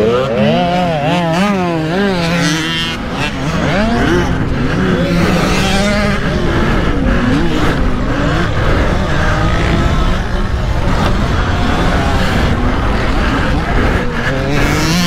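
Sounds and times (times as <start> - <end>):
pit bike engines revving: 0.0 - 15.0.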